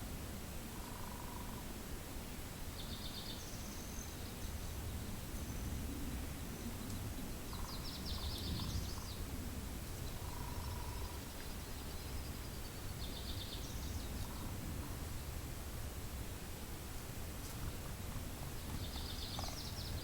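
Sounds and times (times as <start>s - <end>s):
low wind rumble: 0.0s - 20.0s
songbirds calling: 0.7s - 1.7s, 2.7s - 15.4s, 17.4s - 20.0s.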